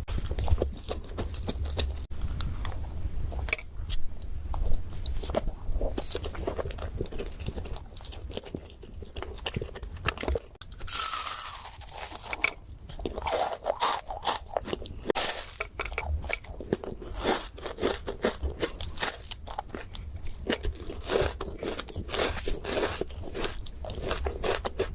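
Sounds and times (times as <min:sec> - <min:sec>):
crunching and chewing: 0:00.0 - 0:24.9.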